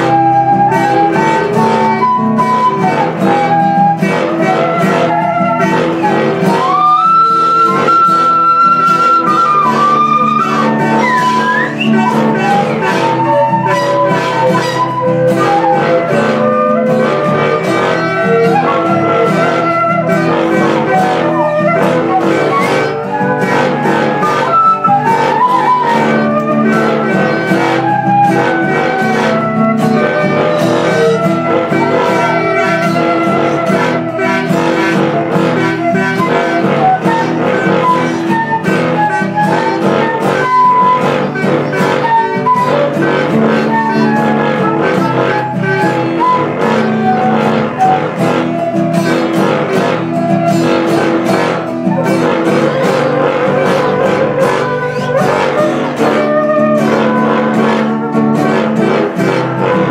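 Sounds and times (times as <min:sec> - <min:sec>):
strummed guitar: 0:00.0 - 0:59.9
tube blown like a horn: 0:00.0 - 0:59.9
wind instruments playing melodies: 0:00.0 - 0:59.9.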